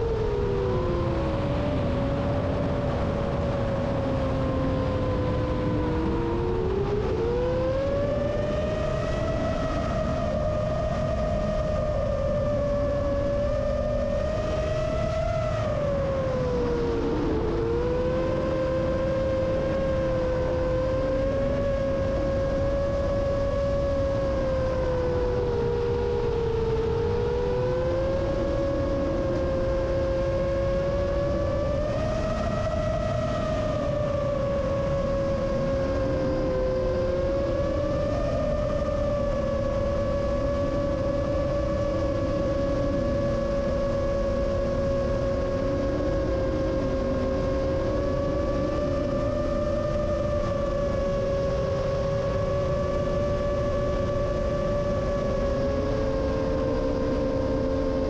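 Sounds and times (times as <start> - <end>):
drone motors whining: 0.0 - 58.0
rush of wind: 0.0 - 58.0.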